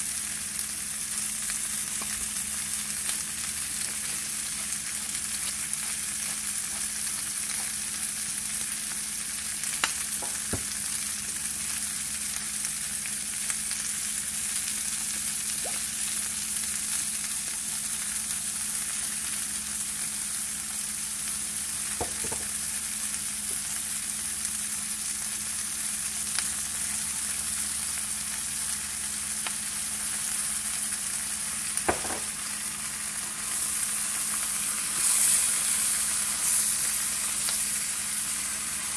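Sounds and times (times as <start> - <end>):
shrimp sizzling in frying pan: 0.0 - 38.9.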